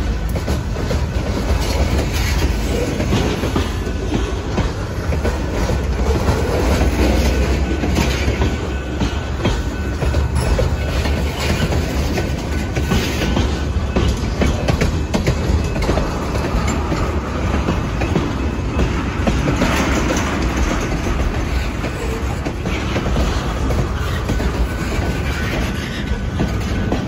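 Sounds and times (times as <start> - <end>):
freight train rumbling past: 0.0 - 27.0
wheels clacking over rail joints: 0.0 - 27.0.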